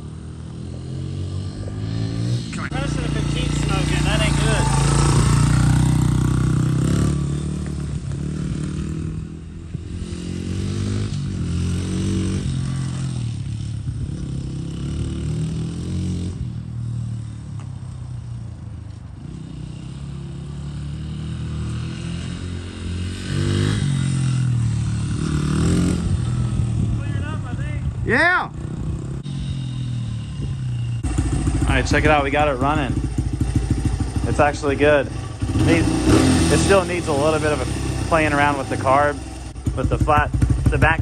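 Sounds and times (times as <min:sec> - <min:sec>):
small motorcycle engine revving: 0:00.0 - 0:18.0, 0:18.9 - 0:27.0, 0:28.6 - 0:41.0.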